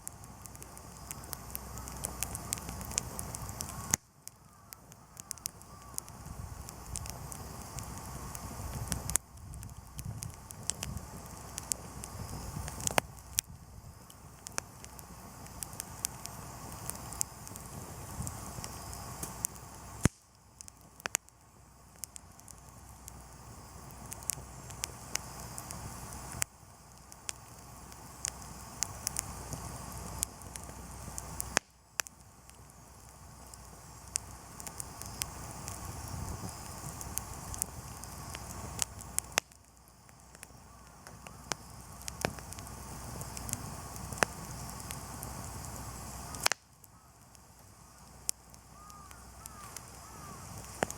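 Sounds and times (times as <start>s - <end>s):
campfire crackling and popping: 0.0s - 50.9s
fire hiss: 0.0s - 50.9s.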